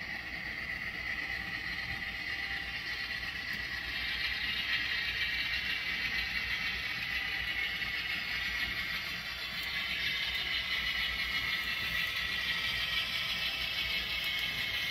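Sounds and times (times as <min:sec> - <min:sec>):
locomotive motor whirring: 0:00.0 - 0:14.9.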